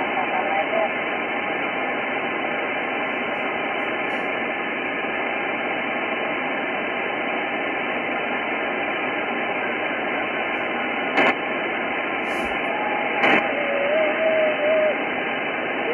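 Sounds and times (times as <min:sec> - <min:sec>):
radio receiver hiss: 0:00.0 - 0:15.9.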